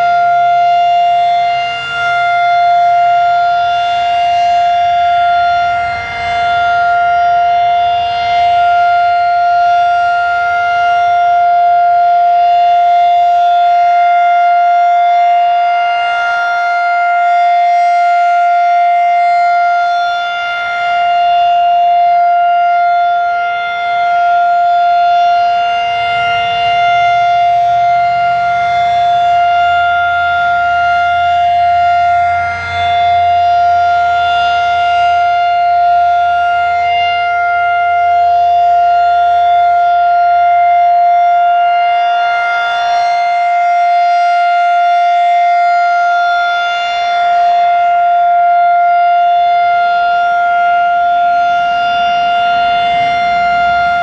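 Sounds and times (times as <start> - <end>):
rotating warning siren: 0.0 - 54.0.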